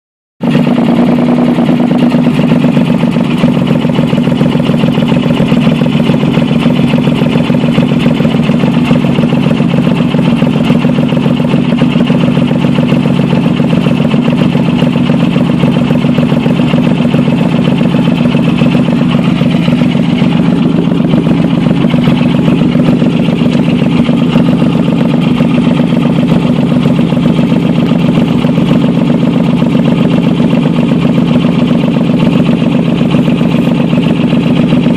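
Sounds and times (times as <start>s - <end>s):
car engine idling: 0.4s - 34.9s
exhaust pulsing: 0.4s - 34.9s.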